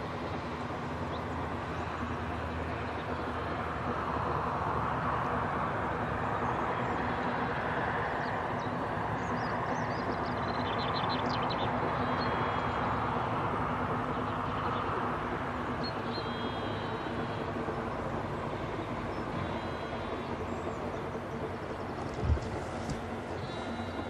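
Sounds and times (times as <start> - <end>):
distant steam locomotive: 0.0 - 24.0.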